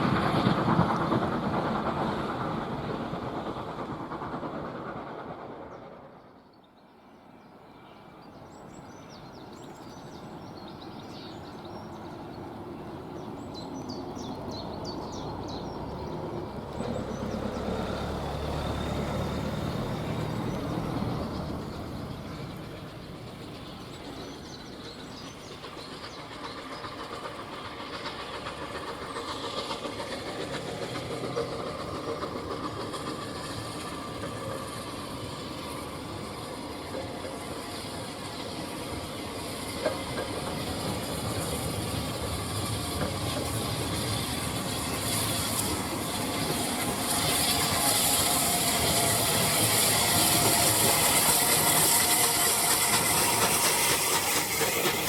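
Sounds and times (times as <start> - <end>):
steam hissing: 0.0 - 6.2, 9.5 - 55.0
steam locomotive chugging: 0.0 - 55.0.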